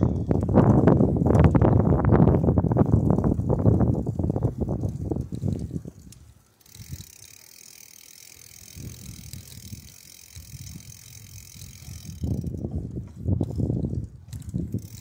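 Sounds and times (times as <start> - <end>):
wind buffeting microphone: 0.0 - 7.2, 8.4 - 15.0.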